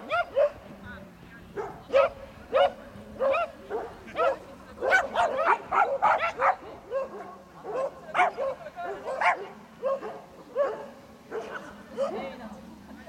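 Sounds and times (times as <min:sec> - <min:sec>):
dog yipping barks: 0:00.0 - 0:00.6, 0:01.6 - 0:11.5.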